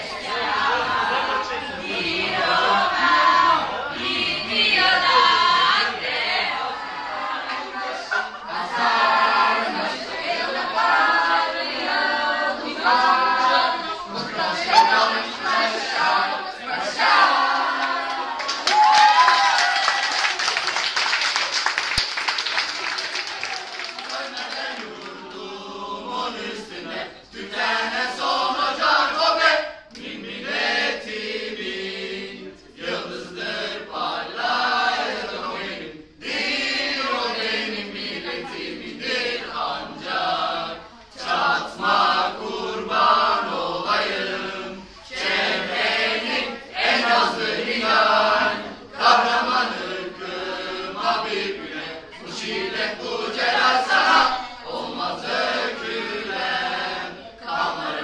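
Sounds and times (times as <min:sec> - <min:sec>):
group of people singing unaccompanied: 0:00.0 - 0:18.6, 0:22.8 - 0:58.0.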